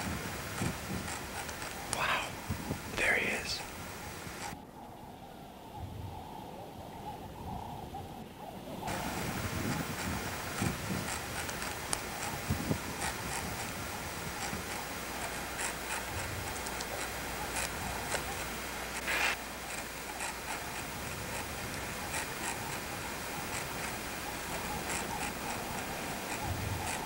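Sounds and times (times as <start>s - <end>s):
faint ticks and clicks: 0.0s - 4.6s, 8.9s - 27.0s
steady hiss: 0.0s - 4.6s, 8.8s - 27.0s.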